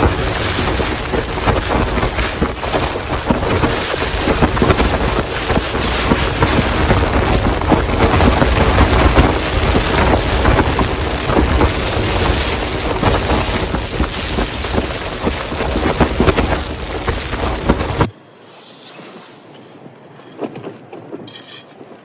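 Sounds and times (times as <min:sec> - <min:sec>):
heavy rain beating down: 0:00.0 - 0:18.1
wind buffeting microphone: 0:00.0 - 0:18.1.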